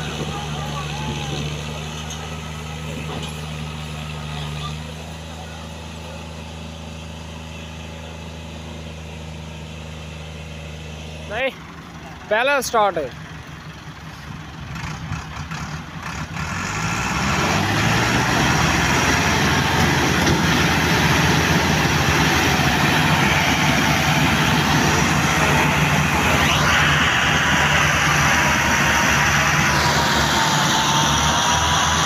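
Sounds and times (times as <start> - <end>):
diesel tractors revving under load: 0.0 - 32.0.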